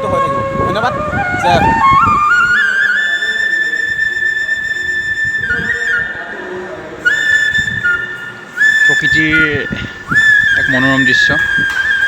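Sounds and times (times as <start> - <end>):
flute playing: 0.0 - 12.0.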